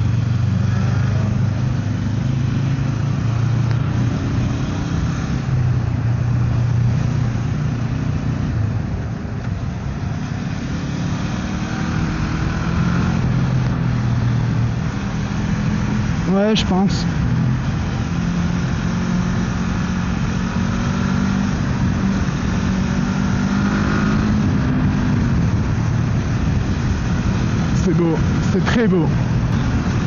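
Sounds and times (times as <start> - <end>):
motorcycle engine cruising: 0.0 - 30.0
wind rushing over microphone: 2.4 - 30.0.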